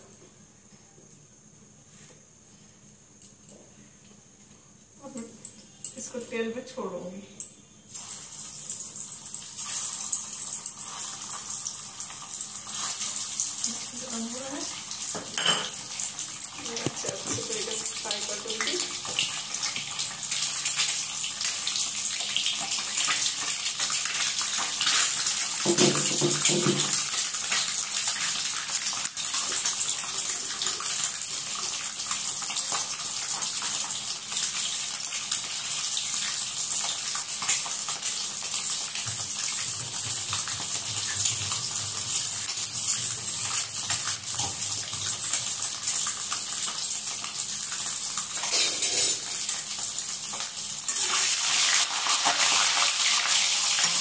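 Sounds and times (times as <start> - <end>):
eggs sizzling in hot oil: 7.8 - 54.0.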